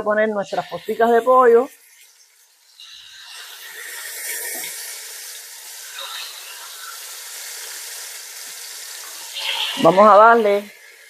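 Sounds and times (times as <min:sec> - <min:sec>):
chicken frying in hot oil: 0:00.3 - 0:11.0.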